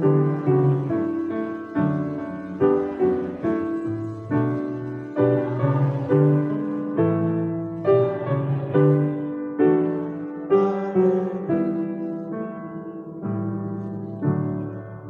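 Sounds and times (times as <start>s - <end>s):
piano playing slow hymn chords: 0.0s - 15.0s.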